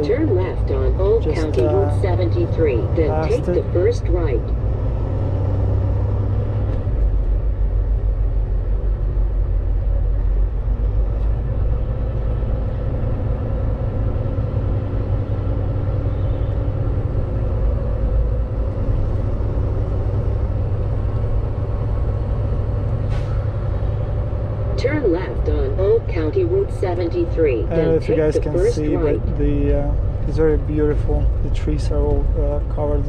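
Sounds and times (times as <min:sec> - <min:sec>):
truck engine and road drone: 0:00.0 - 0:33.0.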